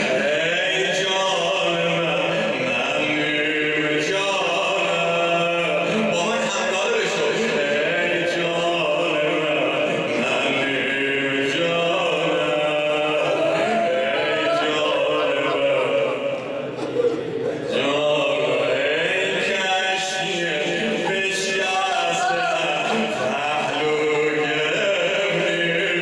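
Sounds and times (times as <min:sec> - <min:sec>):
man chanting: 0:00.0 - 0:16.4, 0:17.7 - 0:26.0.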